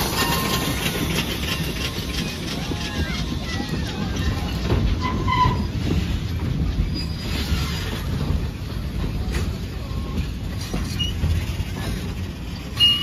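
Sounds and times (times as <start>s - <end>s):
high wheel squeals: 0.0s - 8.5s, 9.8s - 13.0s
train wheels rumbling on rails: 0.0s - 13.0s.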